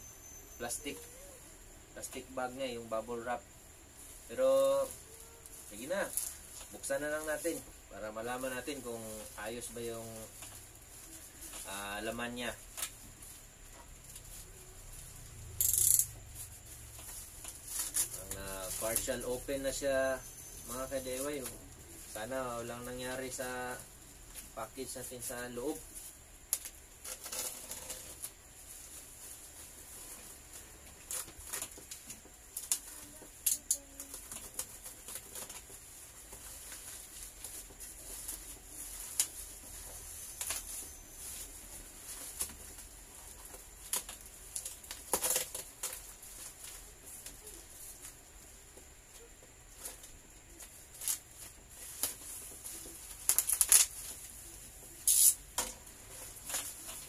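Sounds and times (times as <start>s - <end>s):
plastic wrapping rustling and crinkling: 0.6s - 57.0s.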